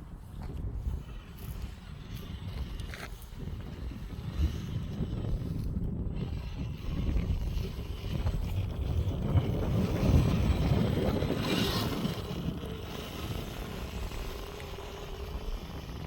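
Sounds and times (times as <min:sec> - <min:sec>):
toy truck driving over rough ground: 0:00.0 - 0:16.0
wind rumbling on microphone: 0:00.0 - 0:16.0.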